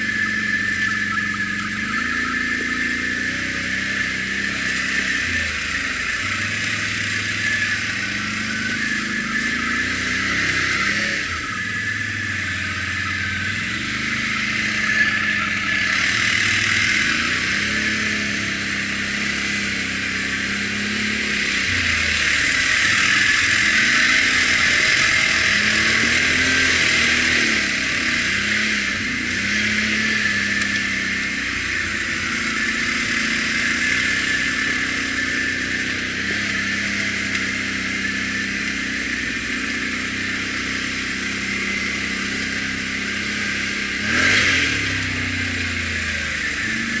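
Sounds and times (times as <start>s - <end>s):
atv engine revving: 0.0s - 47.0s.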